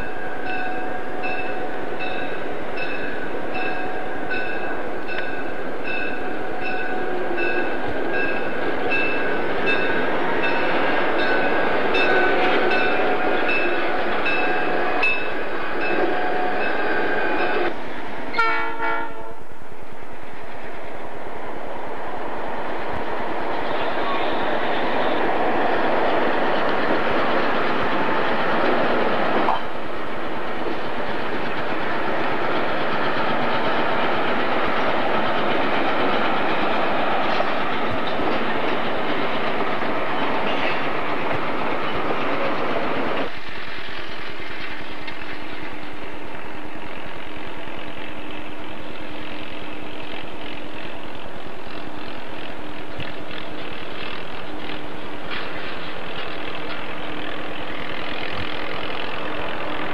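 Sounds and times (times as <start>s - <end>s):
diesel locomotive engine hum: 0.0s - 59.9s
train wheels rumbling: 0.0s - 59.9s.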